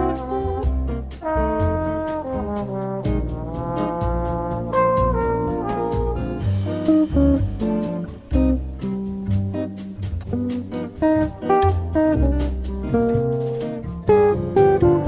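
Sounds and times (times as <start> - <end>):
jazz music with brass: 0.0 - 15.0.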